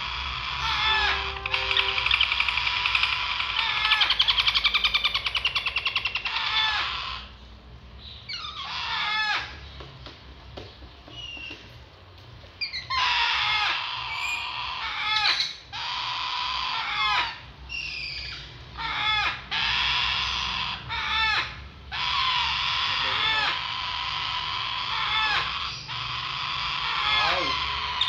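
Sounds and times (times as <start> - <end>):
baby parakeets begging calls: 0.0 - 7.4, 8.1 - 9.7, 12.6 - 28.0.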